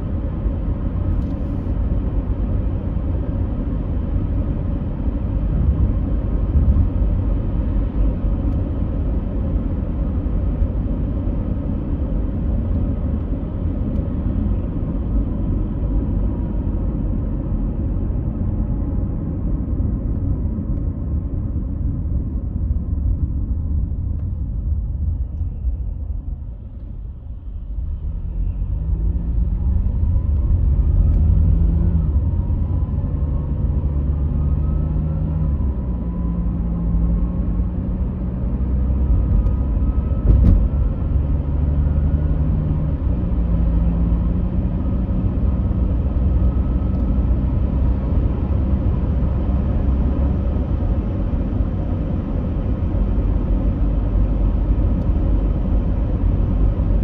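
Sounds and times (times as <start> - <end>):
low vehicle rumble: 0.0 - 57.0.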